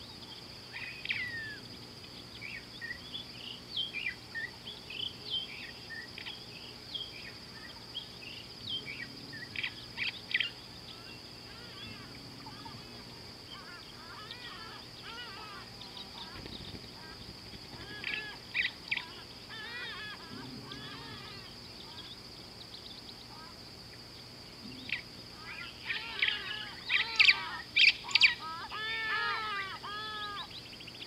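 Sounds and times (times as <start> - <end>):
high-pitched insect drone: 0.0 - 31.0
birds chirping and calling: 0.7 - 23.6, 24.6 - 31.0.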